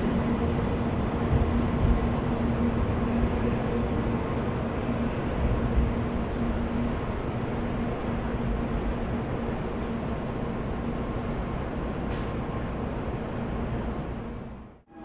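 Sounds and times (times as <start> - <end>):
train rumbling and humming: 0.0 - 15.0.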